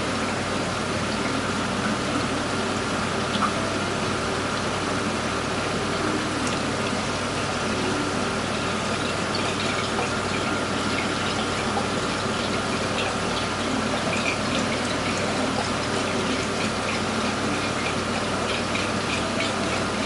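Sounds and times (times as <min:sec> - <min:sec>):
low pump hum: 0:00.0 - 0:20.0
watery rush: 0:00.0 - 0:20.0.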